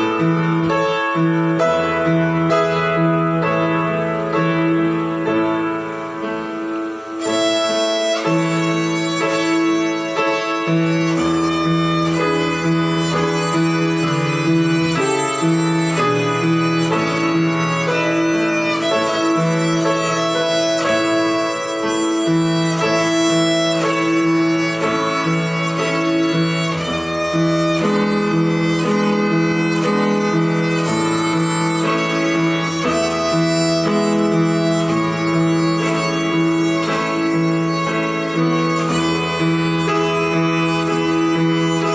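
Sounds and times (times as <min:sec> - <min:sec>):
violin melody: 0:00.0 - 0:41.9.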